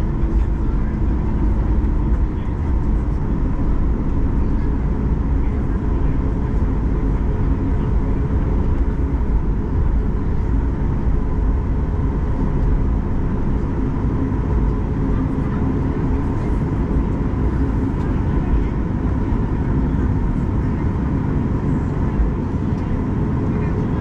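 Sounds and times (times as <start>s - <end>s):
airliner cabin deep rumble: 0.0s - 24.0s.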